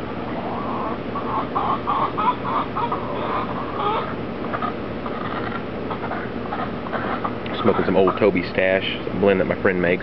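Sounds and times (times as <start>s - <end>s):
chickens clucking: 0.0s - 9.6s.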